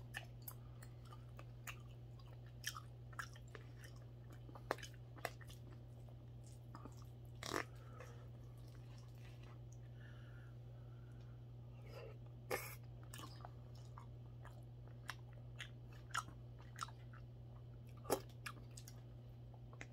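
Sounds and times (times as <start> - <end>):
soft chewing: 0.0 - 19.9
steady low hum: 0.0 - 19.9.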